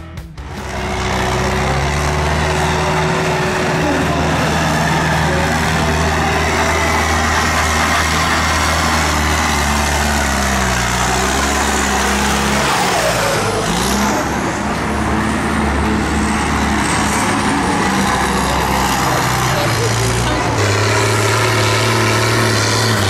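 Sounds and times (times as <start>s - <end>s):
tractor engines running: 0.0s - 23.0s.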